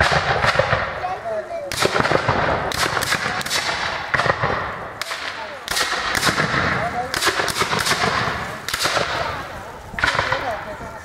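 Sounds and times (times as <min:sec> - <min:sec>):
muskets firing with echo: 0:00.0 - 0:11.0.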